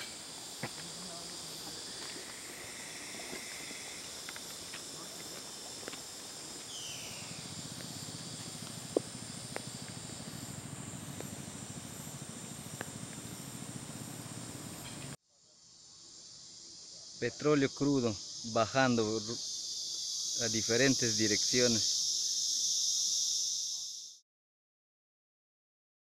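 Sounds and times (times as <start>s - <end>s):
insects buzzing: 0.0s - 24.2s.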